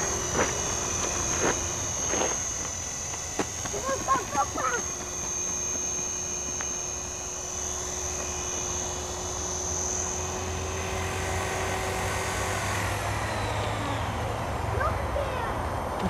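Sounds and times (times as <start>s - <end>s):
low rotor tone: 0.0s - 16.0s
rc helicopter motor whine: 0.0s - 16.0s.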